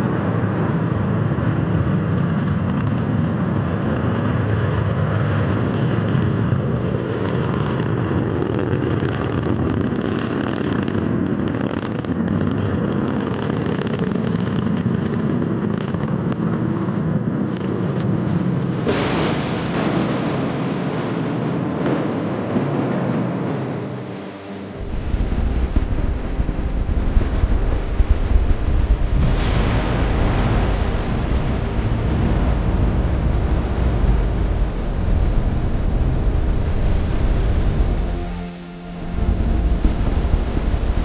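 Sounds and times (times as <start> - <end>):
rocket engines rumbling: 0.0 - 41.0.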